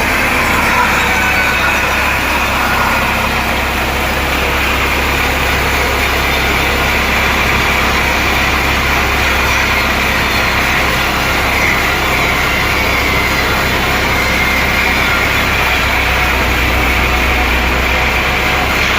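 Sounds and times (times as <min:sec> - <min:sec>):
sawmill machinery running: 0:00.0 - 0:18.9.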